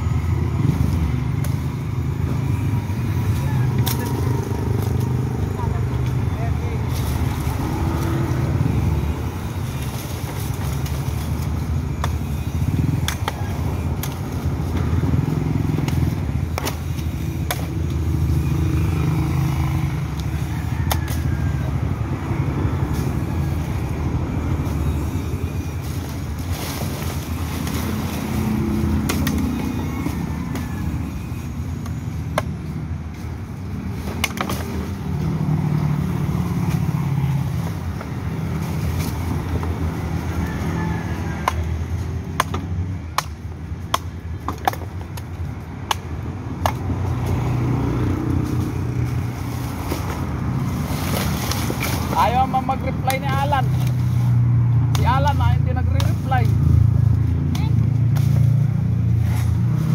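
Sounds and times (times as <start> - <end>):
street traffic rumble: 0.0 - 59.9
machete chopping branches: 2.5 - 59.9.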